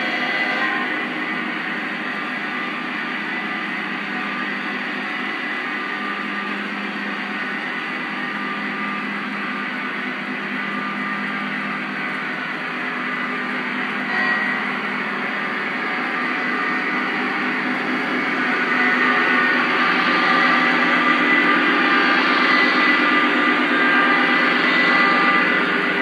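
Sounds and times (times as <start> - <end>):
diesel engine drone: 0.0 - 26.0
model train motors and wheels: 0.0 - 26.0.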